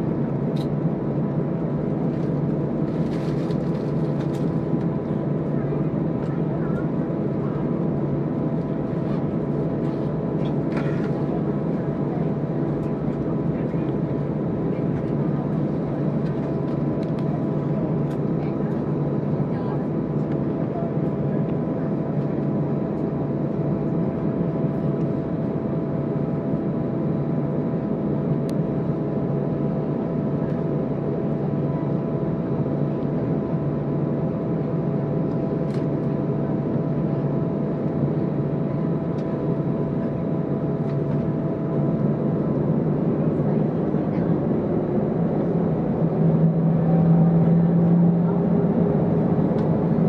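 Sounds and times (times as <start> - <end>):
jet engines humming and whining: 0.0 - 50.0.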